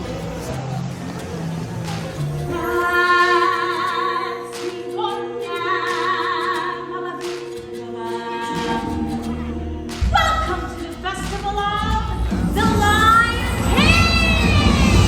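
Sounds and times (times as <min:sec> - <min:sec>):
sustained music: 0:00.0 - 0:15.0.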